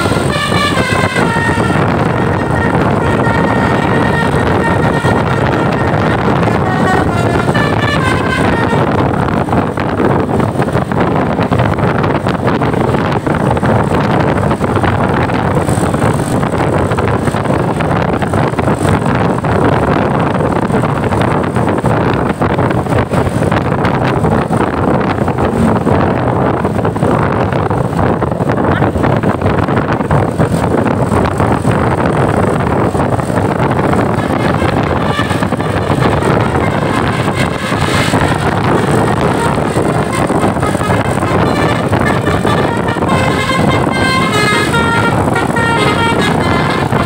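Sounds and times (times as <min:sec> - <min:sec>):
vehicle noise: 0:00.0 - 0:47.0
wind buffeting microphone: 0:00.0 - 0:47.0.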